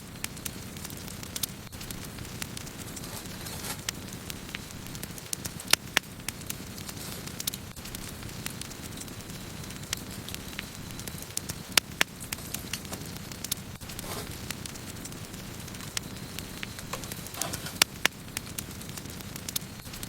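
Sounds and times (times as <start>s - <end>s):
burning wood crackling and popping: 0.0s - 20.0s
campfire flames rushing: 0.0s - 20.0s.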